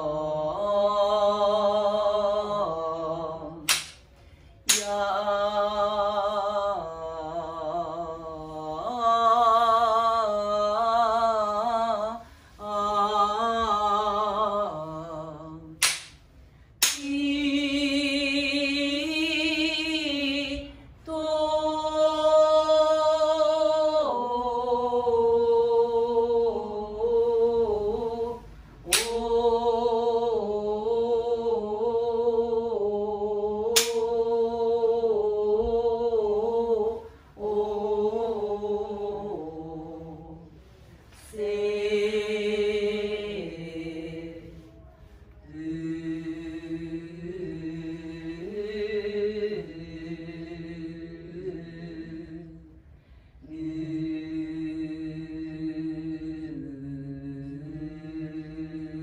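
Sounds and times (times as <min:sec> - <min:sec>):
woman singing long held notes: 0:04.6 - 0:16.1, 0:16.8 - 0:59.0.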